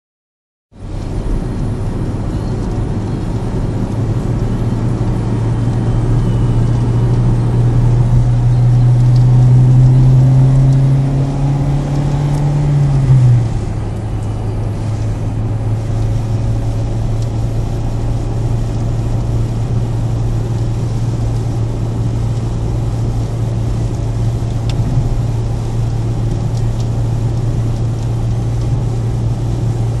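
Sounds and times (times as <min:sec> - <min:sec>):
road noise inside car: 0:00.7 - 0:30.0
car engine accelerating: 0:00.8 - 0:30.0.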